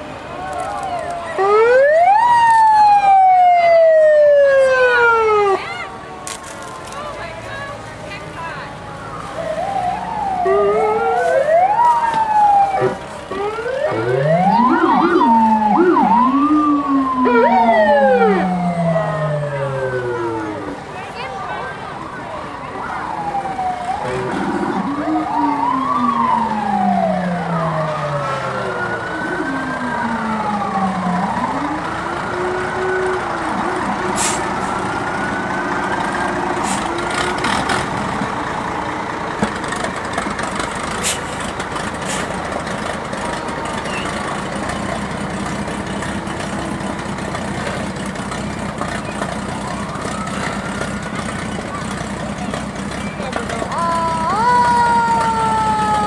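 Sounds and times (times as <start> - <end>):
fire engine sirens wailing: 0.0 - 56.0
fire trucks passing: 0.0 - 56.0.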